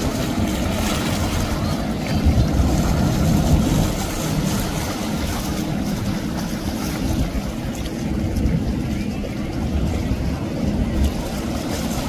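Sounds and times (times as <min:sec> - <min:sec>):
outboard motors running: 0:00.0 - 0:12.0
water rushing from wake: 0:00.0 - 0:12.0.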